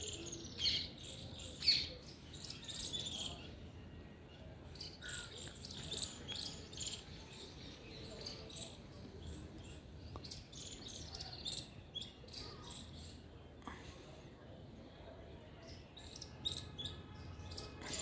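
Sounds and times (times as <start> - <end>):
birds chirping and calling: 0.0 - 3.7, 4.7 - 13.2, 15.7 - 18.0
low background noise: 0.0 - 18.0.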